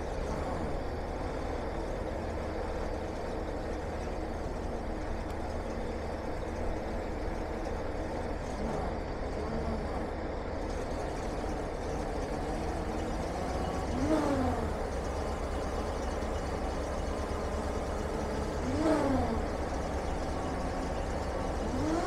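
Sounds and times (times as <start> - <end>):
hydraulic whine: 0.0 - 22.0
truck engine running: 0.0 - 22.0.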